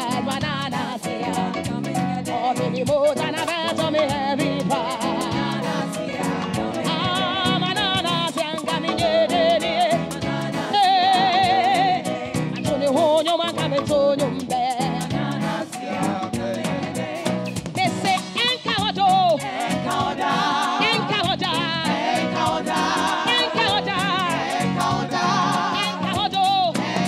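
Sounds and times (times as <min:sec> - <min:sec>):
lead singer with vibrato: 0:00.0 - 0:27.0
backing vocalists singing: 0:00.8 - 0:13.1, 0:14.7 - 0:17.7, 0:18.6 - 0:27.0
accompaniment with steady beat: 0:01.6 - 0:27.0.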